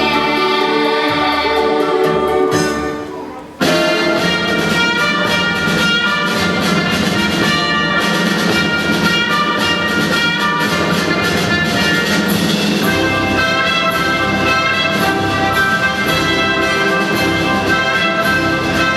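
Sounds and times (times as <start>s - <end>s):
orchestra with brass playing: 0.0s - 18.9s.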